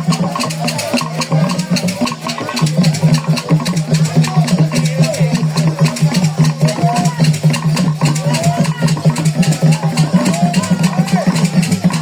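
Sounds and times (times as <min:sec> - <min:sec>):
drums and wooden percussion: 0:00.0 - 0:12.0.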